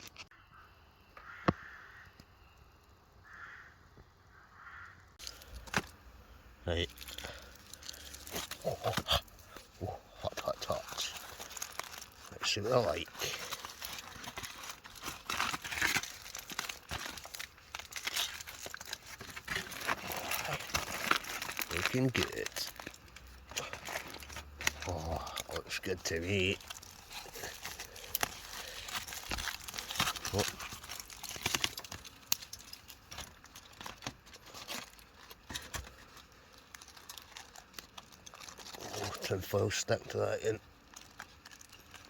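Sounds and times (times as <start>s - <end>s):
aluminium foil crinkling: 5.2s - 42.0s.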